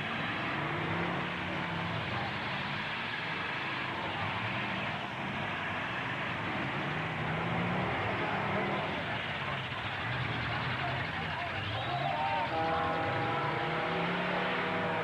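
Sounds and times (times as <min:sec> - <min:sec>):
truck engines rumbling: 0:00.0 - 0:15.0.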